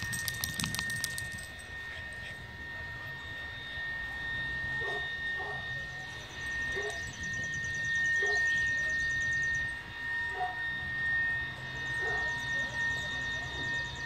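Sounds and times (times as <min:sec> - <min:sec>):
high-pitched whine: 0:00.0 - 0:14.0.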